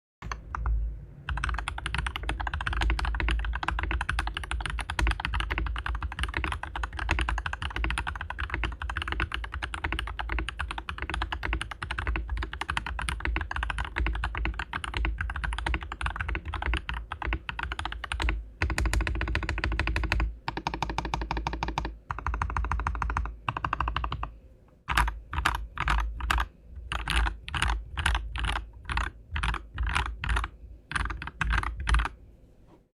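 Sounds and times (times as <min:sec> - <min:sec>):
mechanical keyboard typing: 0:00.2 - 0:24.3, 0:24.9 - 0:32.2.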